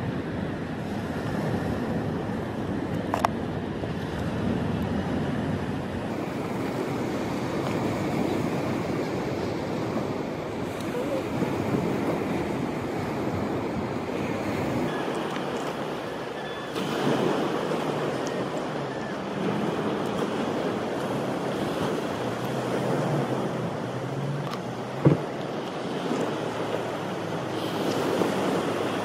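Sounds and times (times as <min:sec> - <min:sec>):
surf washing onto beach: 0:00.0 - 0:29.0
wind on microphone: 0:00.0 - 0:29.0.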